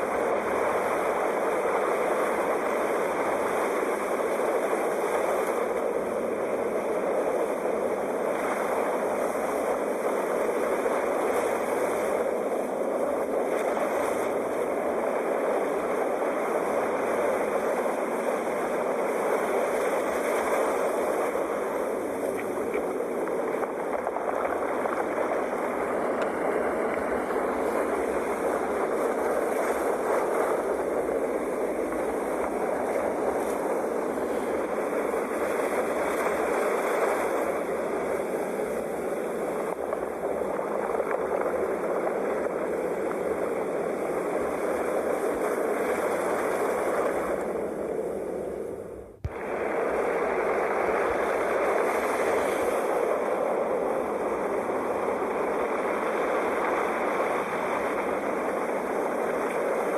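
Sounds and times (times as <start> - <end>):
sea waves washing ashore: 0.0 - 59.9.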